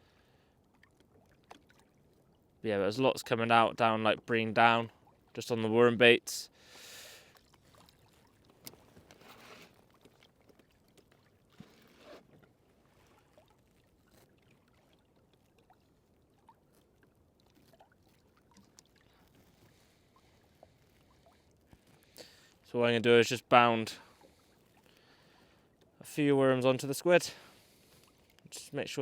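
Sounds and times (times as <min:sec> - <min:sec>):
water moving around a kayak: 0:00.0 - 0:29.0.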